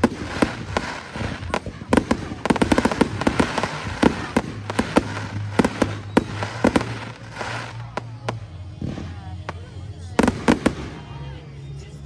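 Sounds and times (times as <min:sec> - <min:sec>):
fireworks bangs and crackles: 0:00.0 - 0:11.7.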